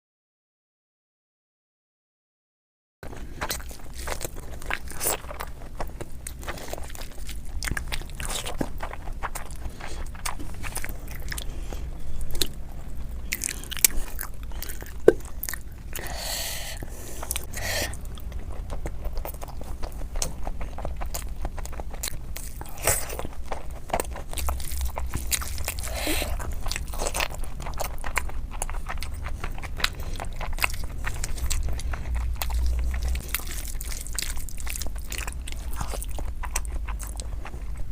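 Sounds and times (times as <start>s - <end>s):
person chewing food: 3.0s - 37.9s.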